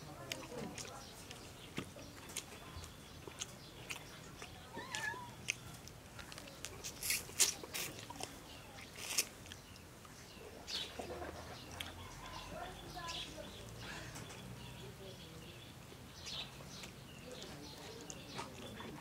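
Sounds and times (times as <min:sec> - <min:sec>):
wet lip smacks and chewing: 0:00.2 - 0:12.8, 0:16.3 - 0:19.0.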